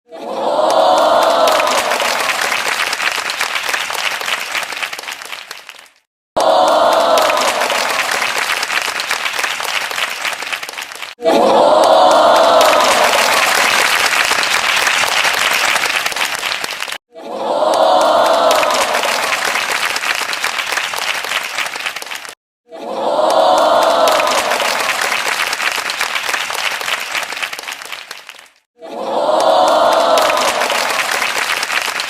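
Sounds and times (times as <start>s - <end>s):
crowd applauding and cheering: 0.2s - 32.0s.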